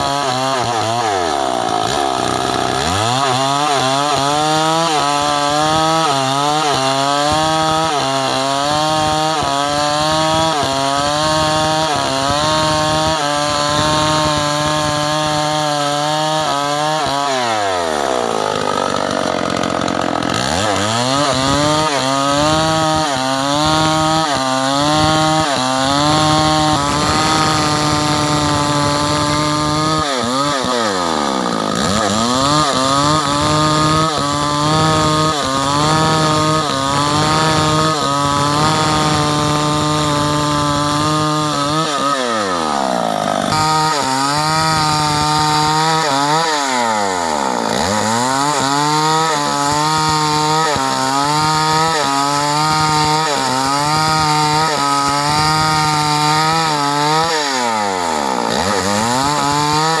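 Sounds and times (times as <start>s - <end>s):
chainsaw ripping timber: 0.0s - 60.0s.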